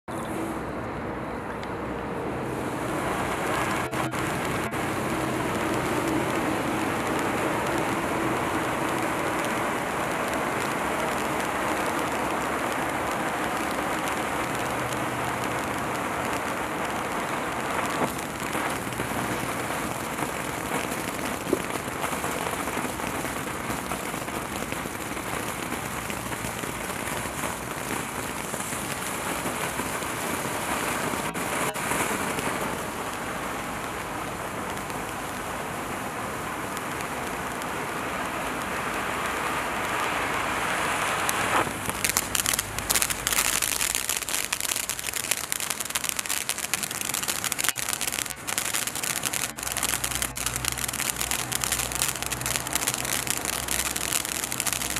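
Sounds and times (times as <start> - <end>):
fountain firework hissing: 0.1 - 0.9, 1.8 - 54.9
sharp pops: 3.4 - 54.9.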